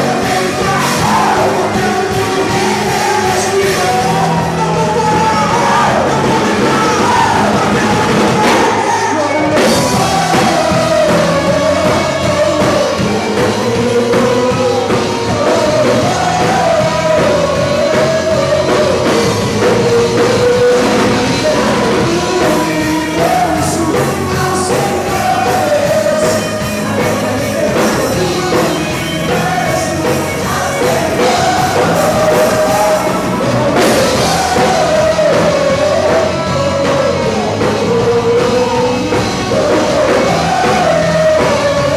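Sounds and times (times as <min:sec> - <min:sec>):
live rock band playing: 0:00.0 - 0:41.9
person singing: 0:00.0 - 0:41.9
steady drum beat: 0:00.0 - 0:41.9.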